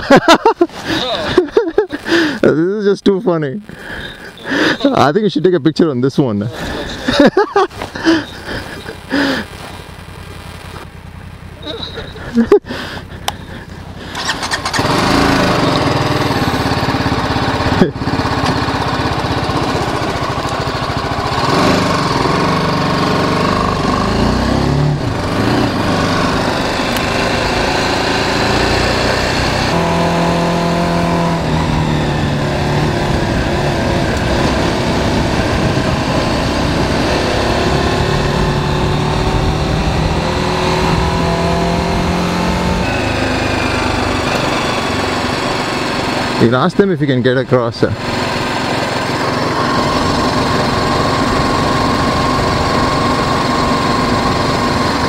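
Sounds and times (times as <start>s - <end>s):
wind and road noise: 0.0s - 55.0s
motorcycle engine accelerating: 6.6s - 55.0s.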